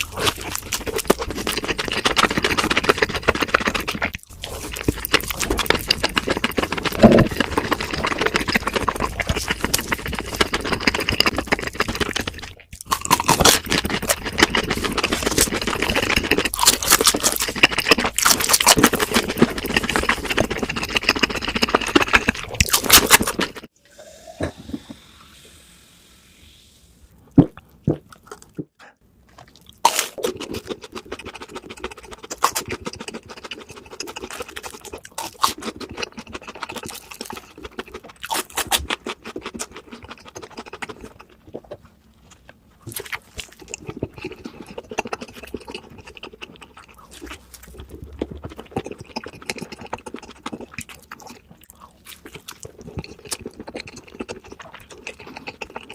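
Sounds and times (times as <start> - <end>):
crunching and chewing fried food: 0.0 - 23.7, 27.5 - 55.9.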